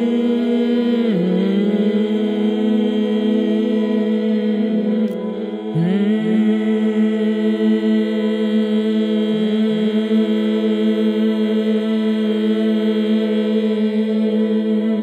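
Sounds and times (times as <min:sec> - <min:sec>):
sustained sung tones: 0:00.0 - 0:15.0.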